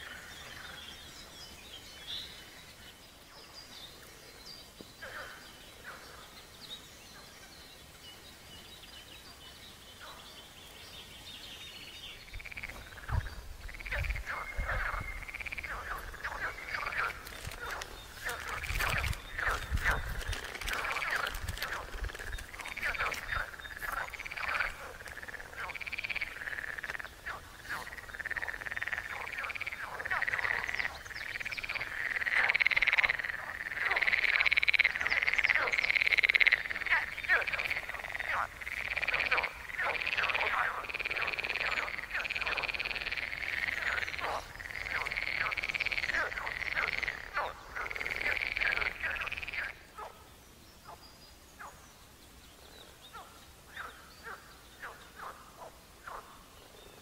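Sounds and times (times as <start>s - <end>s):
chorus of frogs croaking: 0.0s - 1.3s, 2.0s - 6.4s, 12.1s - 51.9s, 53.1s - 57.0s.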